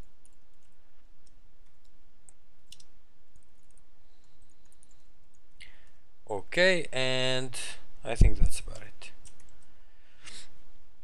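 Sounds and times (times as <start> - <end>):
faint low background hum: 0.0 - 11.0.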